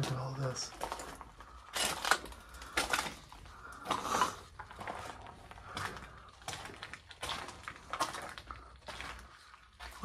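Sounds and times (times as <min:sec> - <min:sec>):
footsteps scraping: 0:00.0 - 0:10.0.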